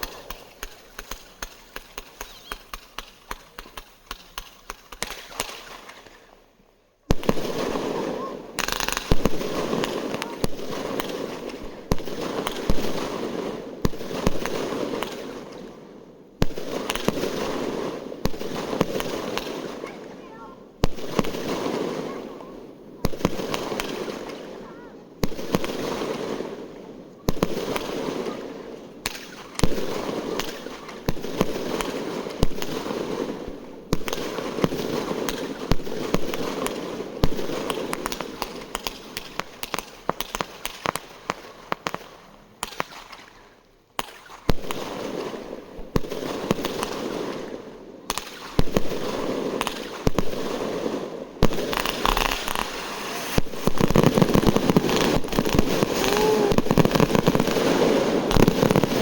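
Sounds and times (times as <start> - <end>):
fireworks bangs: 0.0 - 6.3, 7.1 - 43.4, 44.0 - 59.0
fireworks crackling: 0.0 - 59.0.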